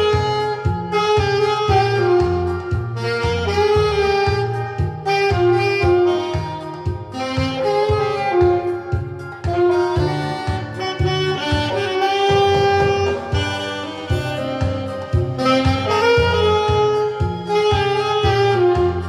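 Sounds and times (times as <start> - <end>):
rhythmic bass accompaniment: 0.0 - 19.0
saxophone melody: 0.0 - 19.0.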